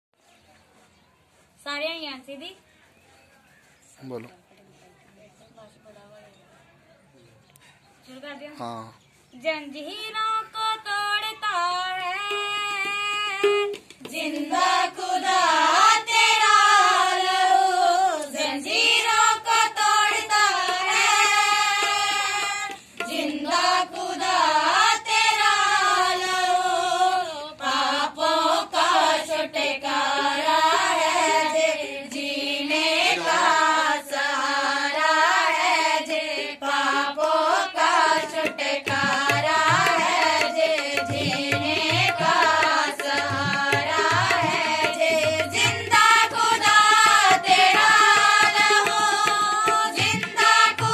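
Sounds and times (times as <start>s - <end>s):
women singing together: 9.4s - 50.9s.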